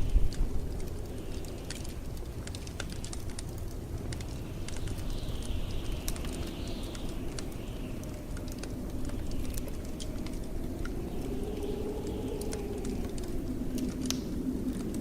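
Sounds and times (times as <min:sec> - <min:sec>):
wind gust whistling: 0:00.0 - 0:02.4, 0:04.4 - 0:15.0
blizzard wind rumble: 0:00.0 - 0:15.0
wood fire crackling and popping: 0:00.0 - 0:15.0.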